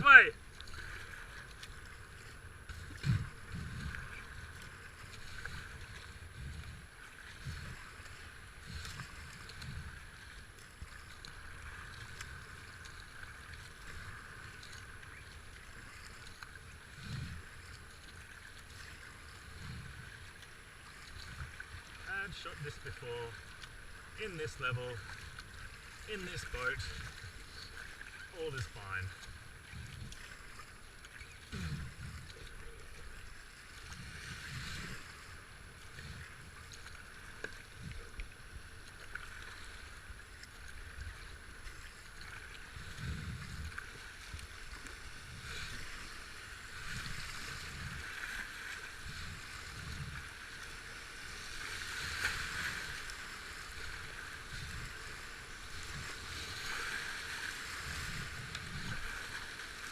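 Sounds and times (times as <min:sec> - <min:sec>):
water rushing around kayak: 0:00.0 - 0:59.9.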